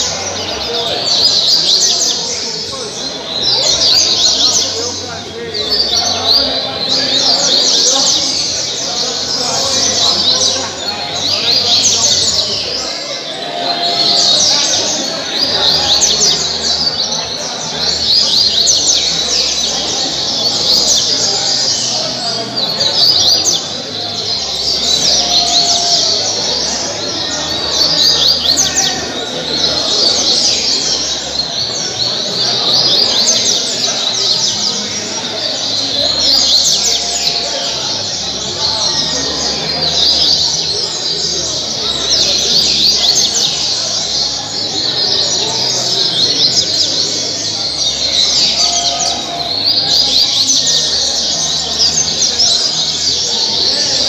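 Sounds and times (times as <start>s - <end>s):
songbird singing high chirps: 0.0s - 54.0s.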